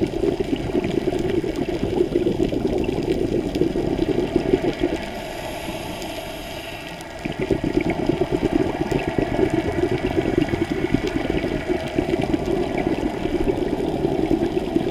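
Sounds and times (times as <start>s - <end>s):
underwater bubbling: 0.0s - 14.9s.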